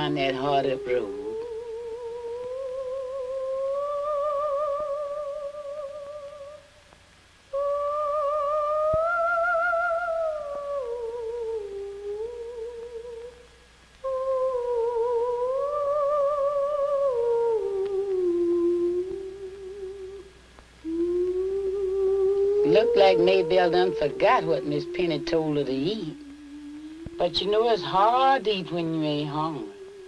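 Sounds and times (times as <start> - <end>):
person humming a tune: 0.0 - 6.7, 7.5 - 30.0.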